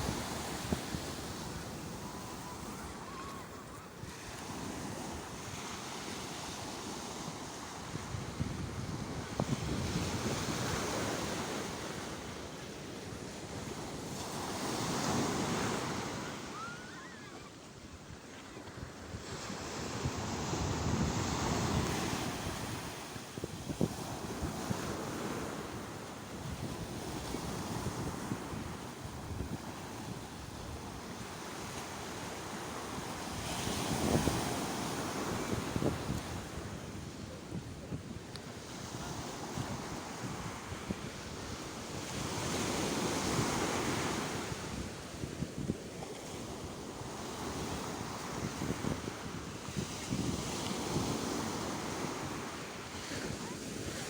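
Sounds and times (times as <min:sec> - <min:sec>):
wind buffeting microphone: 0:00.0 - 0:12.3, 0:17.9 - 0:45.8, 0:46.4 - 0:54.0
sea waves breaking on shore: 0:00.0 - 0:54.0.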